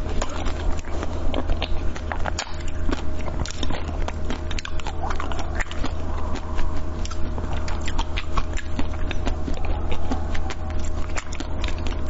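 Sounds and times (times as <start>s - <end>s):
chewing and biting soft food: 0.0s - 12.0s
low hum: 0.0s - 12.0s.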